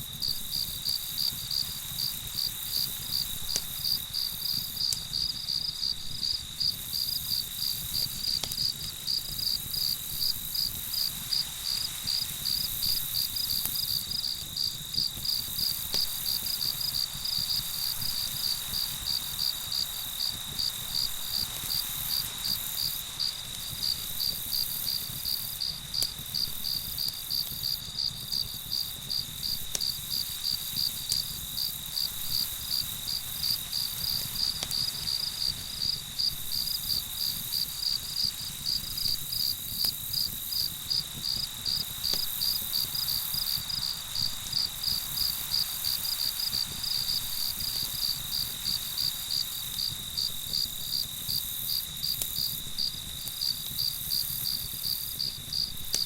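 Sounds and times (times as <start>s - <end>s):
crickets chirping: 0.0s - 56.0s
faint campfire crackles: 0.0s - 56.0s.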